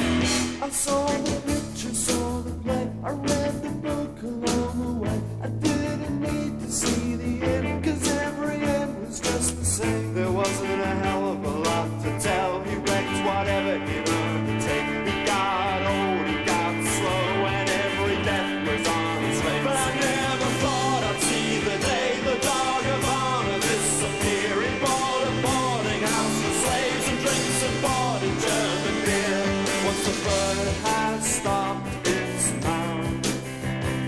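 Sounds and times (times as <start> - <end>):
guitar rock band music: 0.0 - 34.0.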